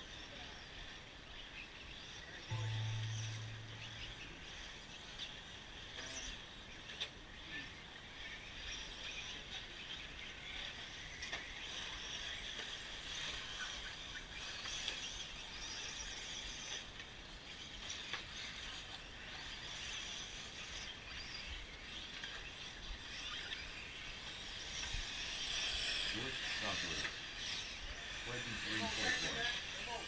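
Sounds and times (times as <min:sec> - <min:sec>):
high-pitched motor whine: 0:01.8 - 0:30.0.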